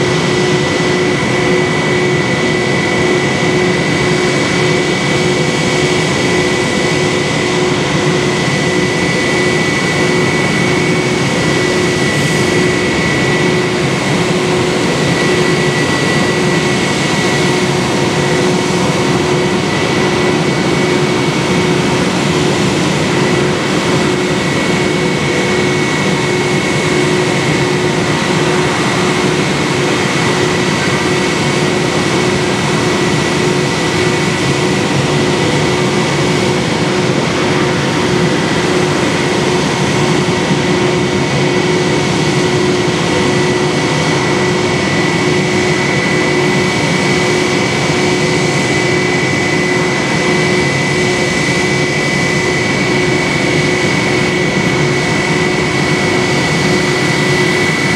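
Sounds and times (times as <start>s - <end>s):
jet engines idling: 0.0s - 57.9s.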